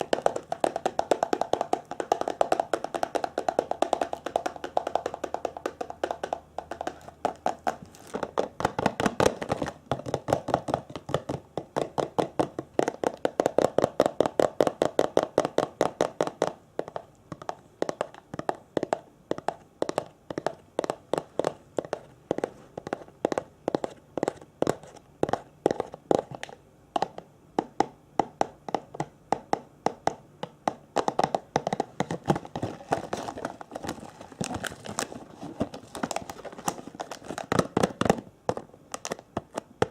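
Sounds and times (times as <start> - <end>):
rapid tapping on object: 0.0 - 39.9.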